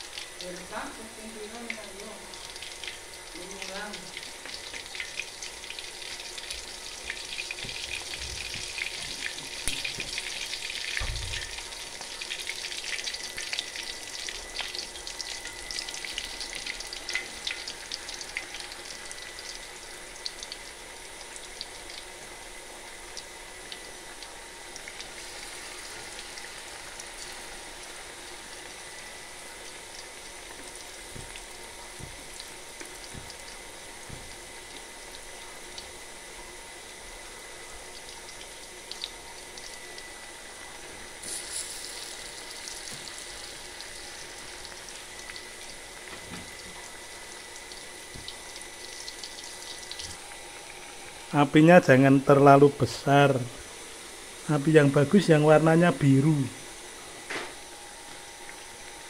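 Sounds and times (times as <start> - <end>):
food deep-frying in hot oil: 0.0 - 59.0.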